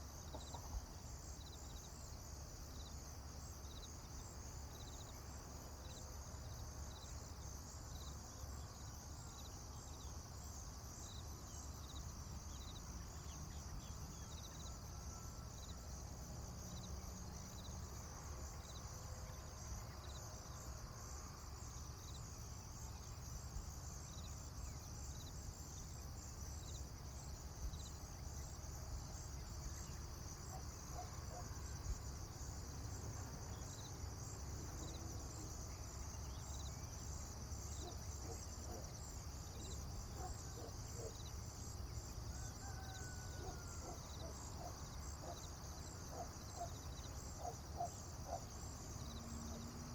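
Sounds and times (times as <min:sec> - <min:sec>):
insects chirping: 0:00.0 - 0:49.9.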